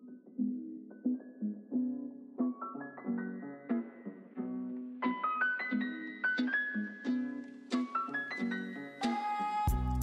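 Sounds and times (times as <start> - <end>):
light background melody: 0.0 - 10.0.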